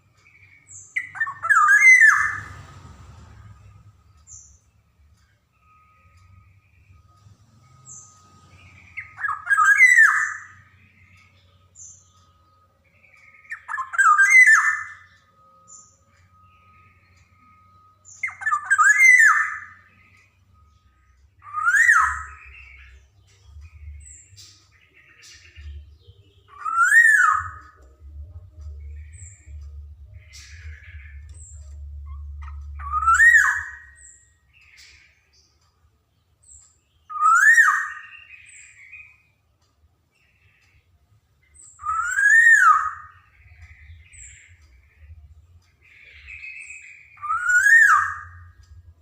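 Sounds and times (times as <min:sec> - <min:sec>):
oriole whistled song: 0:00.0 - 0:49.0.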